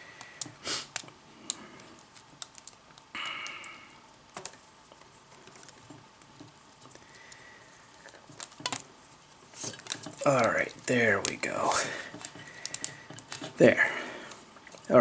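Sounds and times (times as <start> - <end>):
hands handling plastic clicks: 0.2 - 3.6, 4.3 - 8.9, 9.6 - 13.7.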